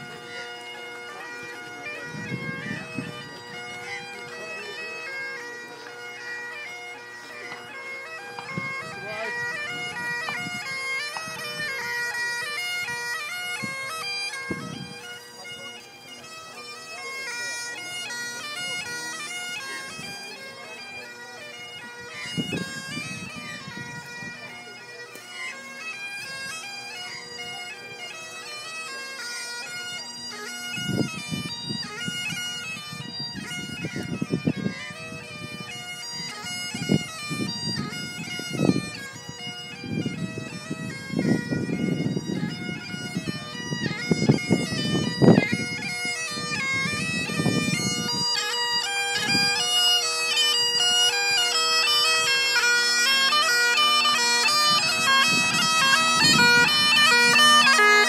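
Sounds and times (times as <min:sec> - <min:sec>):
bagpipes playing a tune: 0:00.0 - 0:58.0.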